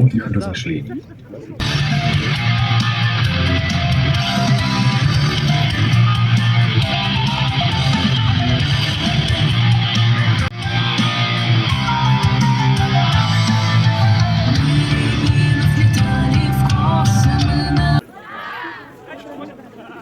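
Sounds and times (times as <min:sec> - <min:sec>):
electric guitar music: 0:01.6 - 0:18.0.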